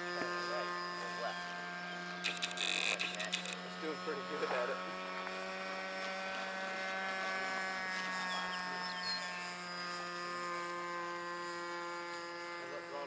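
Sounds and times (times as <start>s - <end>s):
model airplane motor droning: 0.0s - 13.0s.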